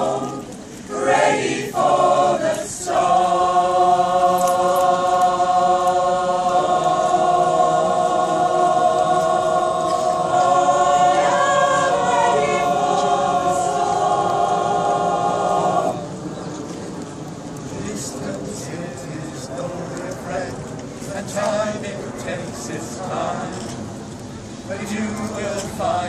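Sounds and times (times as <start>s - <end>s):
mixed choir singing: 0.0s - 16.2s, 17.6s - 23.8s, 24.7s - 26.0s.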